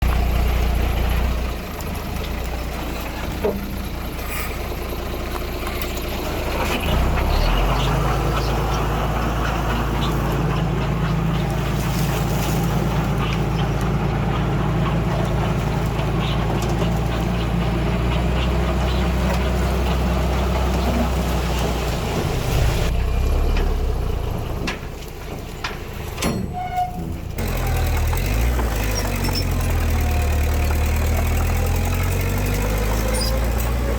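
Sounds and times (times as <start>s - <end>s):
heavy machinery diesel engine: 0.0s - 33.9s.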